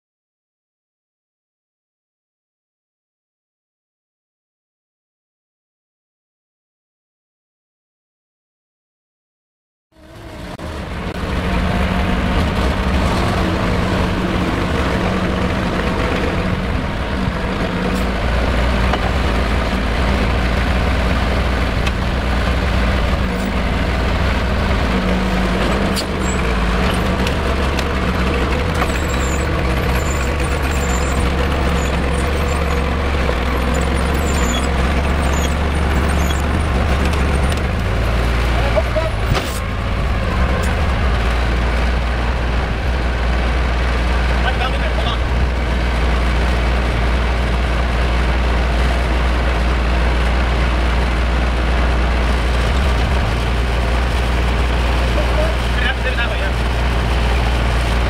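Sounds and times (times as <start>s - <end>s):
crawler tractor engine running: 10.0s - 58.0s.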